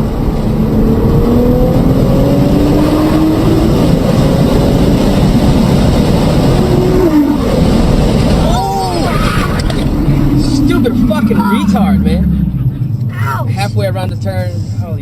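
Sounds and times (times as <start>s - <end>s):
car engine accelerating: 0.0s - 15.0s
road and wind noise: 0.0s - 15.0s.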